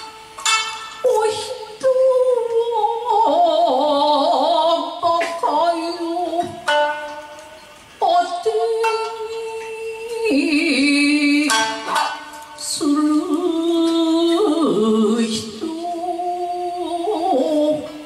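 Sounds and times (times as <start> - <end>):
shamisen plucks: 0.0 - 18.0
woman singing: 1.0 - 7.2, 8.0 - 18.0.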